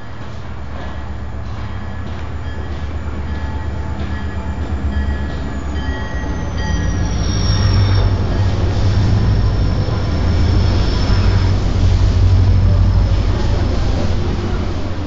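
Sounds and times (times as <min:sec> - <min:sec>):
diesel locomotives rumbling past: 0:00.0 - 0:15.0.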